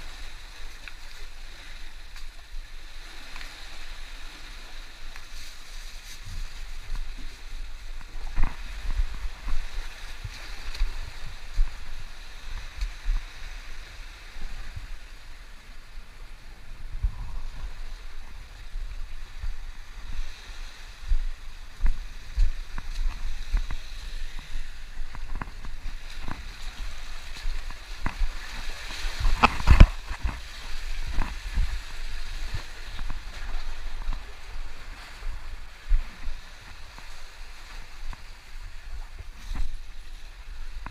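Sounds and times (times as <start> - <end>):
sea water washing over rocks: 0.0 - 40.9
low rumbling thumps of waves: 6.2 - 40.9.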